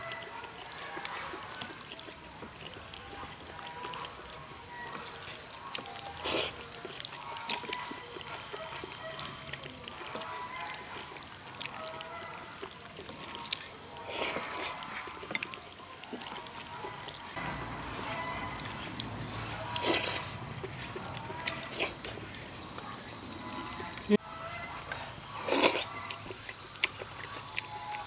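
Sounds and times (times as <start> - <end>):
noodles being slurped: 0.0 - 24.0, 24.9 - 28.0.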